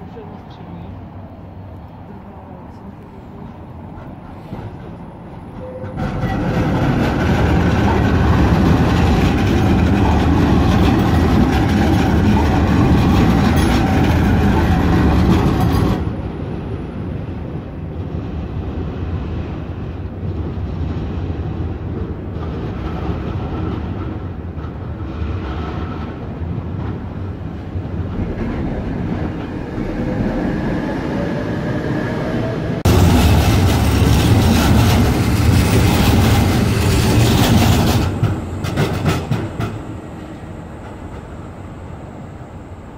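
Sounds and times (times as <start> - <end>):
tram motor and wheel whine: 0.0 - 42.9
trams rumbling on rails: 0.0 - 42.9.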